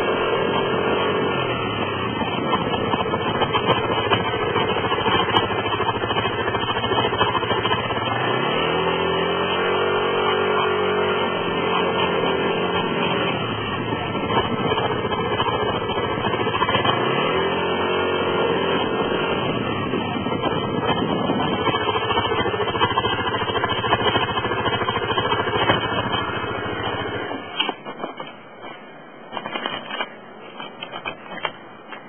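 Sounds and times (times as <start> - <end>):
abnormal scooter noise: 0.0 - 32.0
scooter engine running: 0.0 - 32.0.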